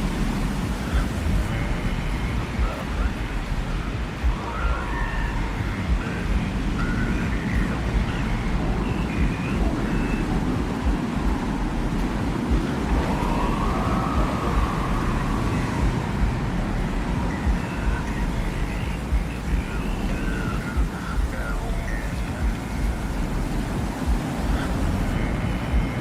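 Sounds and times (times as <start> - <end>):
faint whistling tones: 0.0 - 26.0
low rumble of wind: 0.0 - 26.0
slow rising and falling tone: 0.0 - 26.0.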